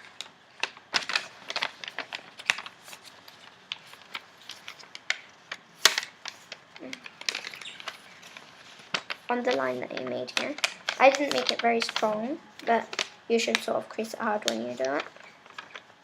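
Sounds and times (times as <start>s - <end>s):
paper being folded and creased: 0.0s - 16.0s.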